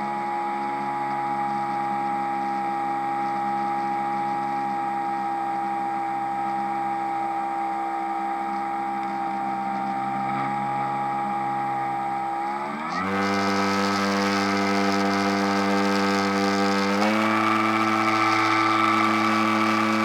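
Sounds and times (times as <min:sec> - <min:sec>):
model airplane motor running: 0:00.0 - 0:20.0.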